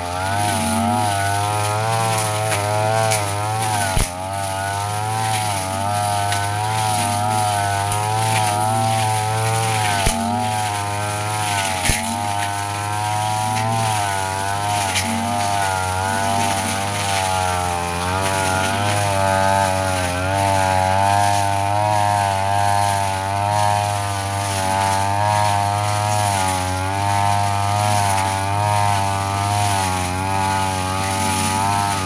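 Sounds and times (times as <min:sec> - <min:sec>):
brush cutter engine cutting grass: 0:00.0 - 0:32.0.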